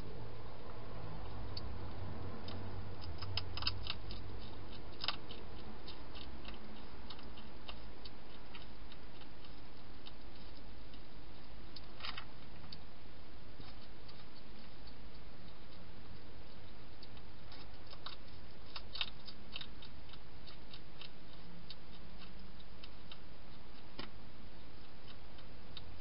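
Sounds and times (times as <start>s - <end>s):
steady low hiss: 0.0s - 26.0s
hedgehog crunching dry food: 1.1s - 26.0s.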